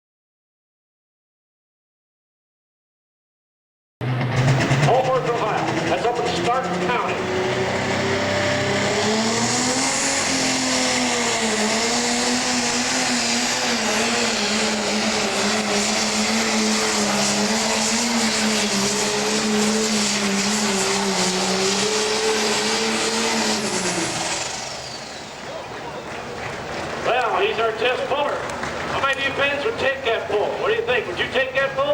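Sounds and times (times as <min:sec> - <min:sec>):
tractor diesel engine at full power: 0:04.0 - 0:31.9.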